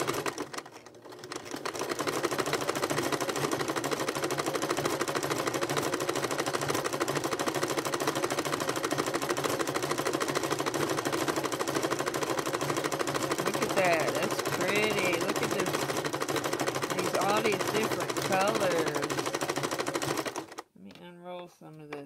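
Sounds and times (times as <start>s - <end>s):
sewing machine running: 0.0s - 20.7s.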